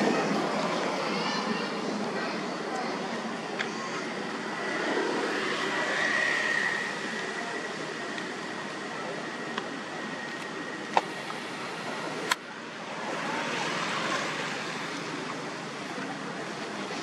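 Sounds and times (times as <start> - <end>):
outdoor rushing noise: 0.0 - 17.0.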